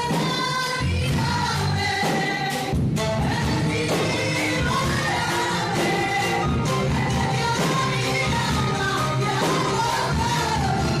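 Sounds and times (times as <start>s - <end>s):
instruments and percussion: 0.0s - 11.0s
people singing worship song: 0.0s - 11.0s.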